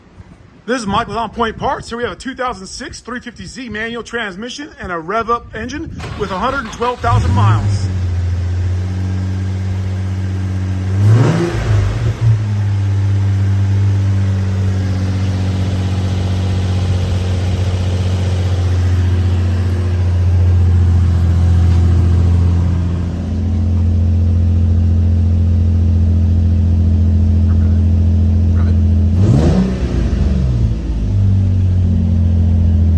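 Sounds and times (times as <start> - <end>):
car engine idling and revving: 6.0 - 32.9.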